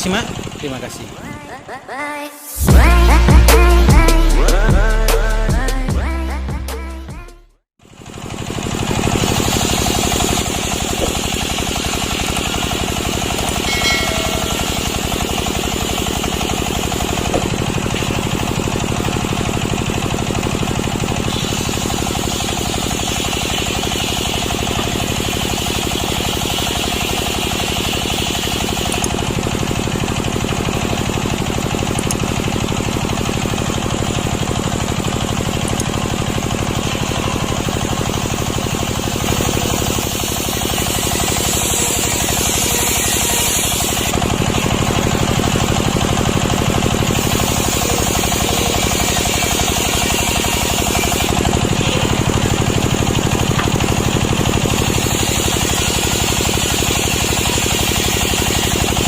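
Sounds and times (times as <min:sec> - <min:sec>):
chainsaw cutting log: 0:08.2 - 0:14.2, 0:15.6 - 0:59.0.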